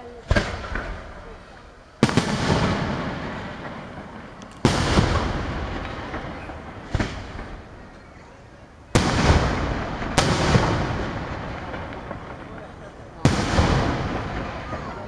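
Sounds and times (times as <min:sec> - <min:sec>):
rolling echo: 0:00.0 - 0:15.0
firework bangs: 0:00.2 - 0:15.0.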